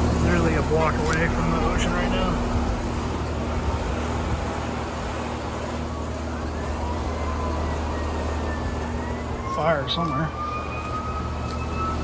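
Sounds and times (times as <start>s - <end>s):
condenser units humming: 0.0s - 12.0s
distant siren: 0.0s - 12.0s
traffic: 0.0s - 12.0s.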